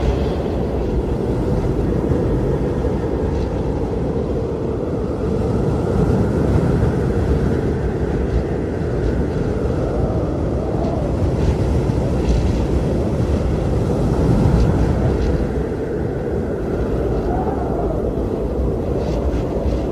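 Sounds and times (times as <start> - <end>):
blizzard wind howling: 0.0 - 19.9.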